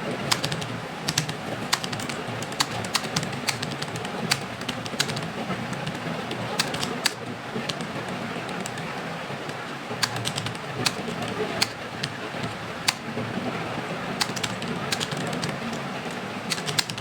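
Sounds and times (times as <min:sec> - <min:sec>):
keyboard typing: 0:00.0 - 0:17.0
steady background hiss: 0:00.0 - 0:17.0.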